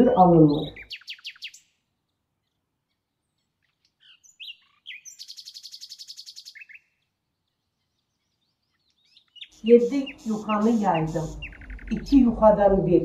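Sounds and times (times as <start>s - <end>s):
songbird chirping and trilling: 0.0s - 13.0s.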